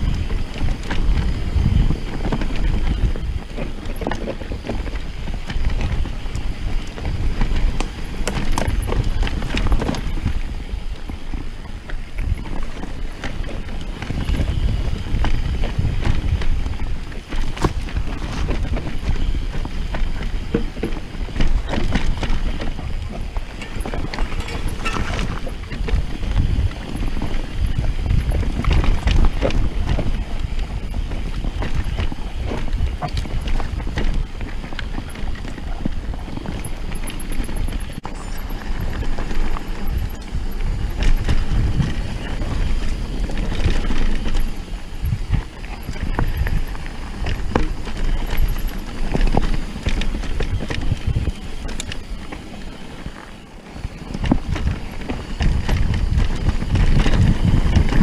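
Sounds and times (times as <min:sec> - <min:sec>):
bike frame rattling and knocking: 0:00.0 - 0:38.0, 0:38.6 - 0:58.0
wind buffeting microphone: 0:00.0 - 0:58.0.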